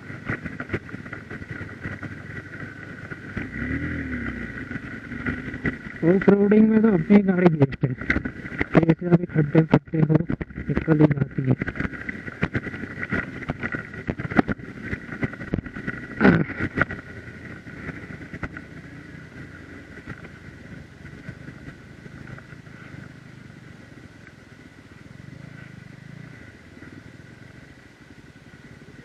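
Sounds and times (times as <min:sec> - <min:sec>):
motorcycle engine running: 0:00.0 - 0:29.0
motorcycle rattling over potholes: 0:00.0 - 0:29.0.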